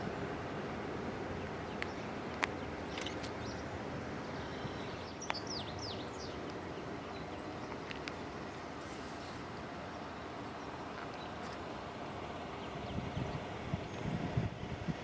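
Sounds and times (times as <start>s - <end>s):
steady rushing background noise: 0.0s - 15.0s.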